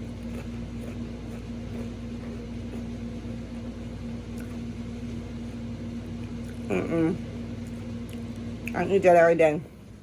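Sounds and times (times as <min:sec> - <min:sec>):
steady mechanical hum: 0:00.0 - 0:10.0.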